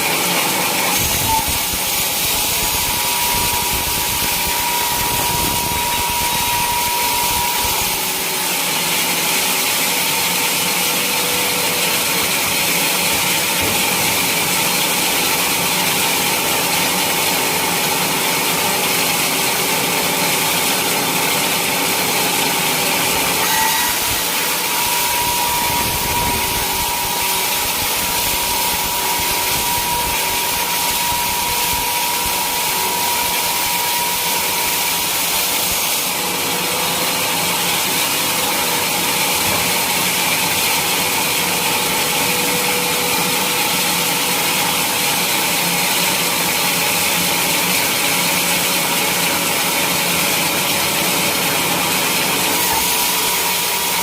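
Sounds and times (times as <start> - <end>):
sawmill saw running: 0.0 - 54.0.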